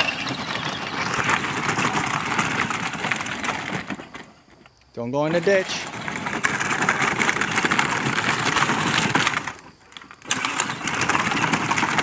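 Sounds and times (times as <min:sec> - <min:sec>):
plastic wheels crunching on gravel: 0:00.0 - 0:12.0.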